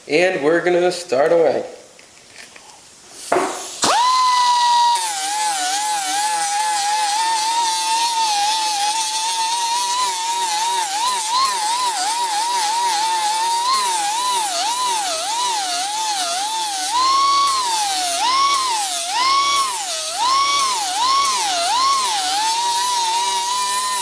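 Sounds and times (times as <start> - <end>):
pneumatic die grinder whine: 3.3 - 24.0.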